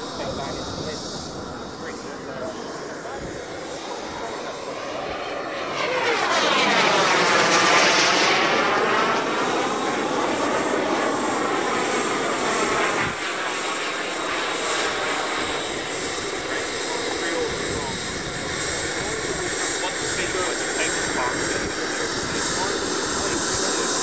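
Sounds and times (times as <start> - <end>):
model jet engine passing overhead: 0.0 - 24.0.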